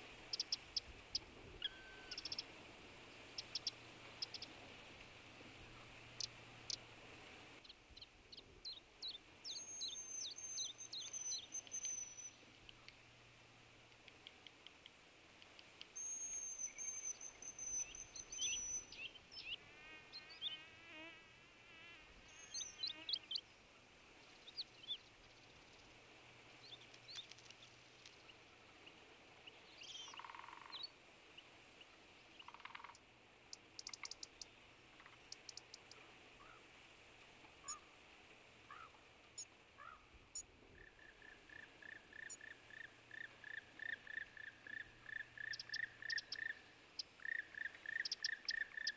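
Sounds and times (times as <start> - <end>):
small birds singing: 0.0 - 4.6, 5.5 - 6.9, 7.6 - 13.0, 15.4 - 21.0, 22.2 - 23.5, 24.2 - 36.6, 38.7 - 48.9.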